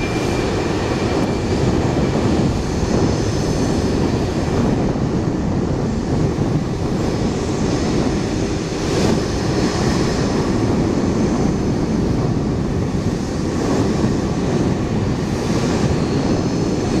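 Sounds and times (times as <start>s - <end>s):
deep jet rumble: 0.0s - 17.0s
faint high jet whine: 0.0s - 17.0s.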